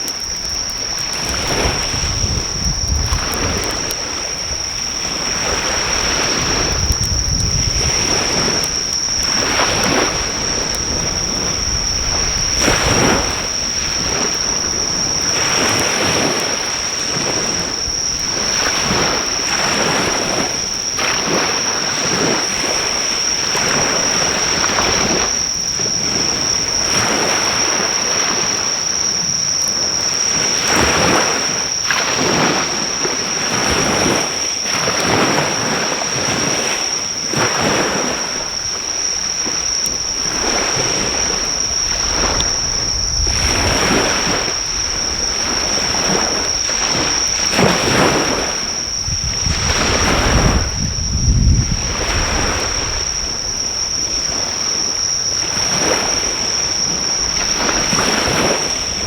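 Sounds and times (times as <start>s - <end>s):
high-pitched insect trill: 0.0s - 59.0s
waves breaking on shore: 0.0s - 59.0s.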